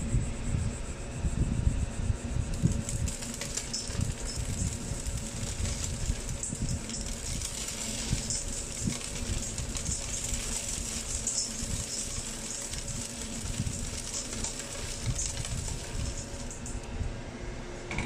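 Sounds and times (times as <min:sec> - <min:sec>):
blower fan humming: 0:00.0 - 0:18.0.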